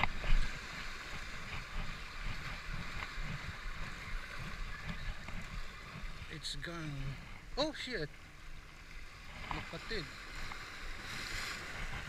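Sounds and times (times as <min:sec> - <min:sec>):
ocean surf washing over rocks: 0:00.0 - 0:12.0.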